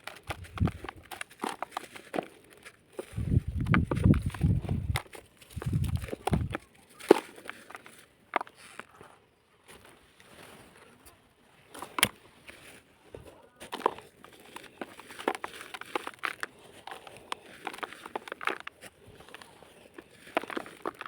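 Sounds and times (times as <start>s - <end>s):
dry dirt lumps crunching: 0.0s - 21.0s.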